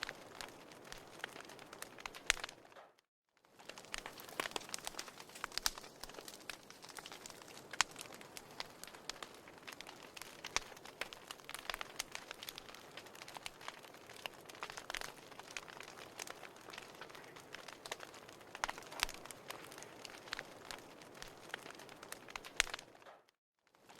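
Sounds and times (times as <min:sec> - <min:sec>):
firewood crackling and popping: 0:00.0 - 0:23.9.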